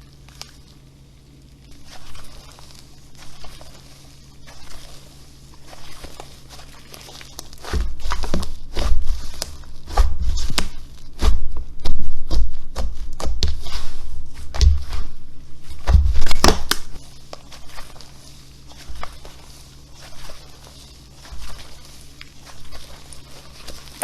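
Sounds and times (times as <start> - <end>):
slime crackling and popping: 0.0 - 24.0
squishy thumps: 1.6 - 24.0.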